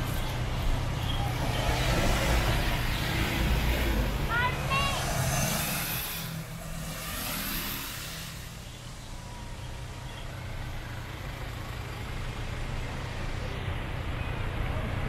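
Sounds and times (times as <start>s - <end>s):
heavy vehicle engine passing: 0.0s - 15.0s.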